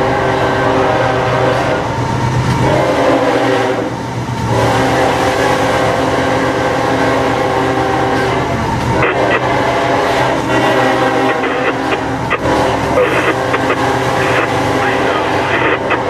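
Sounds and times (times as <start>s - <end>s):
locomotive air horn blasts: 0.0s - 1.9s, 2.6s - 16.0s
diesel engine drone: 0.0s - 16.0s.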